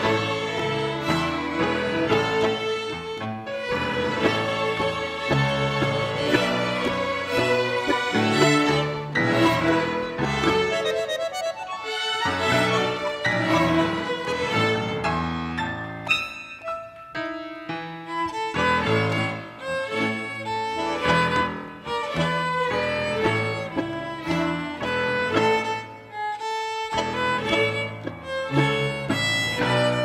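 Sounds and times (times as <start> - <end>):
violin ensemble playing: 0.0 - 17.0, 18.0 - 30.0
piano accompaniment: 0.0 - 30.0.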